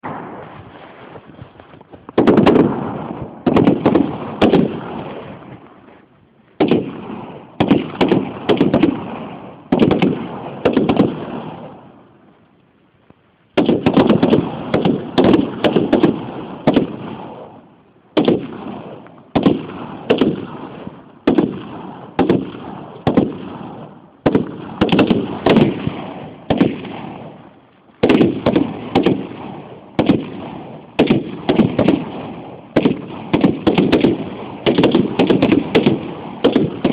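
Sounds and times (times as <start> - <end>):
rifle shots: 0.0 - 1.0, 2.1 - 5.6, 6.6 - 12.0, 13.6 - 36.9
rolling echo of gunfire: 0.0 - 1.1, 2.1 - 5.6, 6.6 - 12.0, 13.6 - 36.9.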